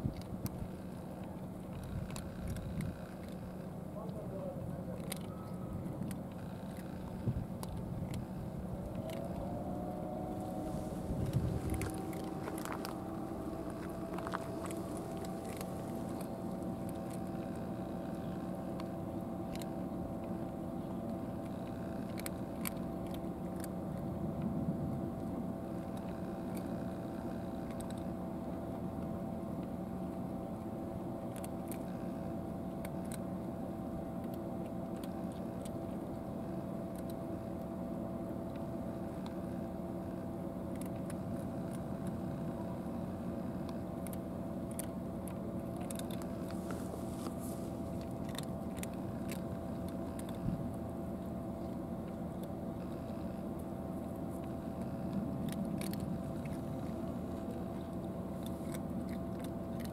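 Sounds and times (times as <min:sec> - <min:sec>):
engine hum: 0:00.0 - 0:59.9
cats crunching dry kibble: 0:00.1 - 0:59.9.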